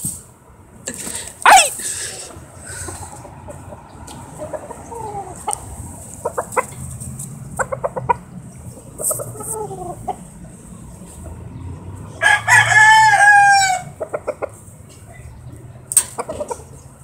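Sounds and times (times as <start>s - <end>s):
roosters clucking: 0.8s - 17.0s.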